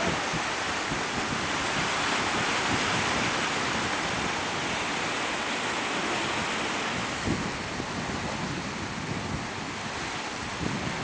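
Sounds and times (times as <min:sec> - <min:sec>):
ocean surf breaking on rocks: 0:00.0 - 0:11.0.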